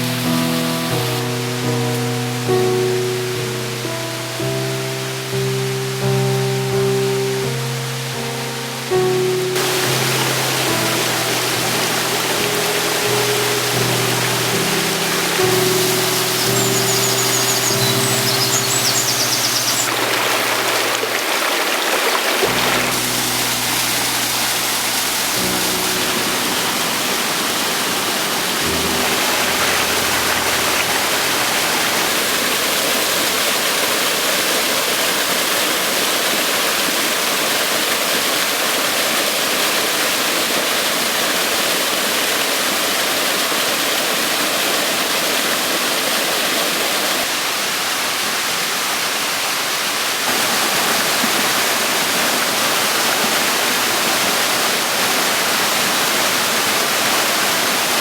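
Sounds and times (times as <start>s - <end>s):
water rushing over waterfall: 0.0s - 58.0s.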